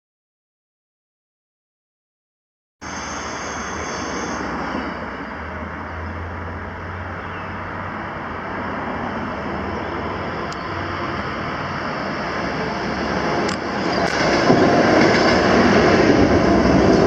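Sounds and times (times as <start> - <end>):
diesel locomotive engine drone: 2.8 - 17.0.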